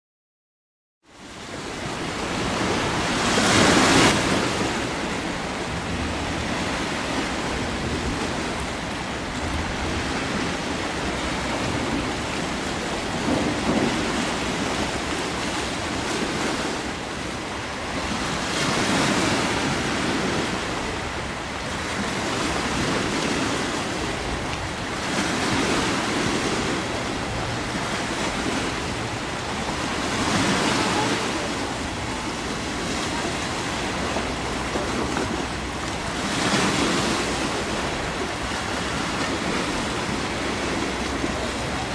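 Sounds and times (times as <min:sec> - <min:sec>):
waves washing in: 0:01.1 - 0:41.9.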